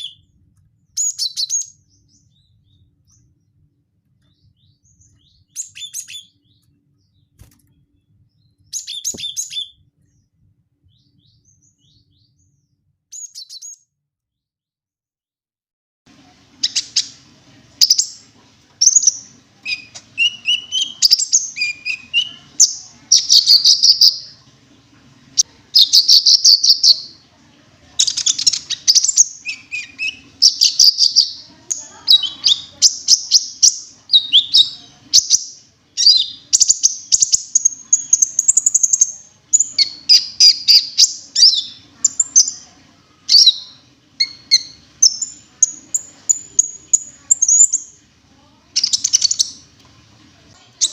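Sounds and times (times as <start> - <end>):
bird chirping: 0.0 - 13.9, 16.6 - 17.2, 17.8 - 24.4, 25.3 - 27.2, 28.0 - 48.0, 48.8 - 49.7.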